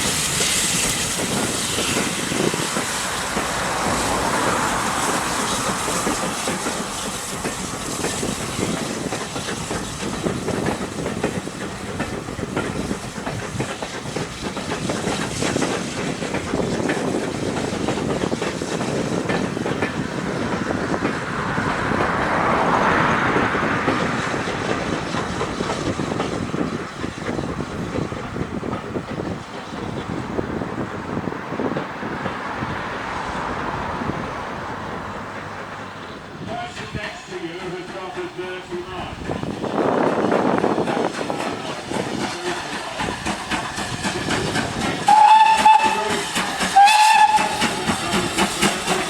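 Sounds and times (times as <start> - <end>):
train wheels clattering over rail joints: 0.0 - 49.0.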